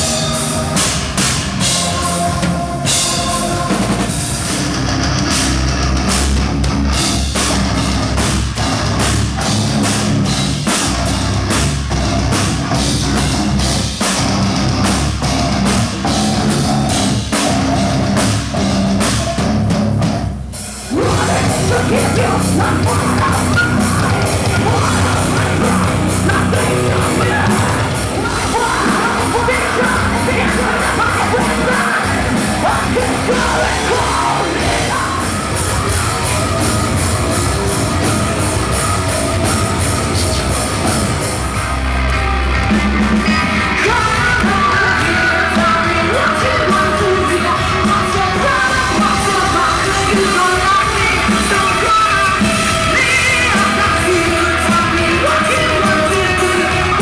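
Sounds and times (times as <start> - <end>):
heavy metal band playing: 0.0 - 57.0
pounding drum kit: 0.0 - 57.0.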